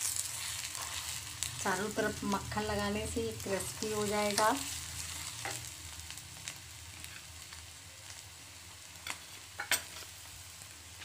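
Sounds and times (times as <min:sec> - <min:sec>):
batter sizzling on griddle: 0:00.0 - 0:11.0.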